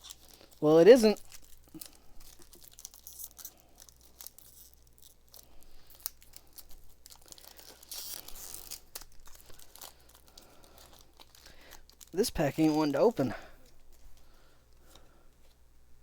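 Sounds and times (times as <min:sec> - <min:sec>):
foil wrappers crinkling: 0:00.0 - 0:15.5.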